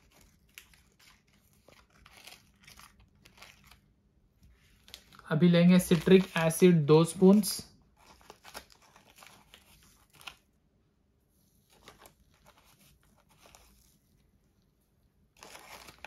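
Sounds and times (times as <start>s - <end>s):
plastic bag crinkling: 0.0s - 3.9s, 4.7s - 10.5s, 11.6s - 14.2s, 15.3s - 16.0s.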